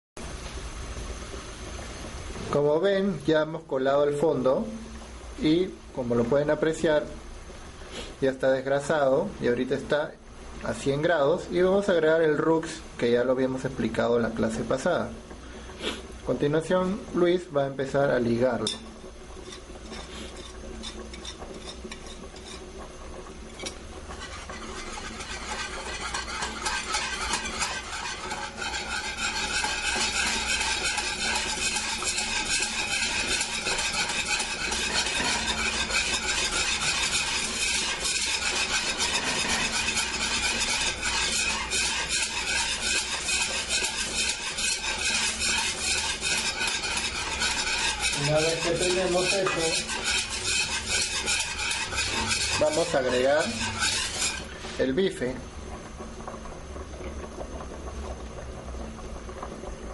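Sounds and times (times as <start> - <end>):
whisk scraping in saucepan: 1.0 - 7.2, 7.8 - 55.4.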